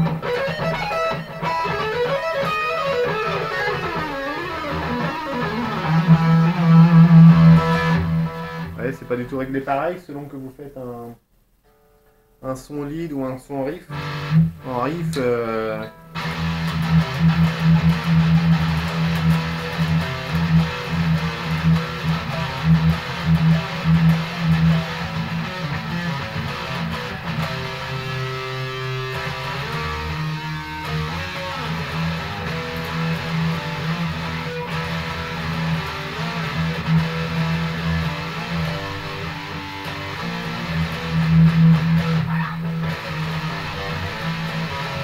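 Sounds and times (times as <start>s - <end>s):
distorted electric guitar riff: 0.0s - 9.6s, 13.9s - 45.0s.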